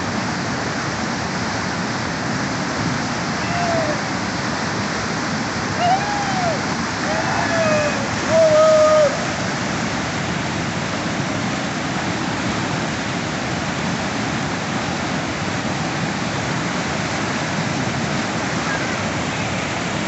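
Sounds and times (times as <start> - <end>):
water rushing over boulders: 0.0 - 20.0.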